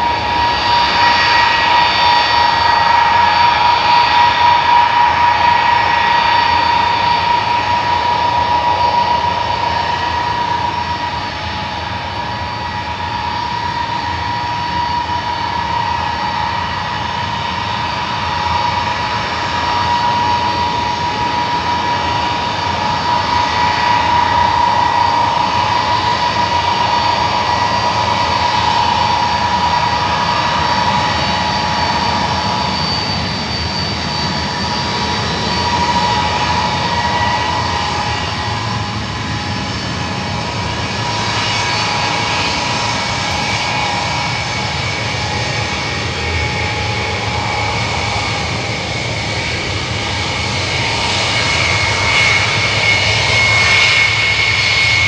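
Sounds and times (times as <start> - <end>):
jet aircraft taxiing: 0.0 - 55.0.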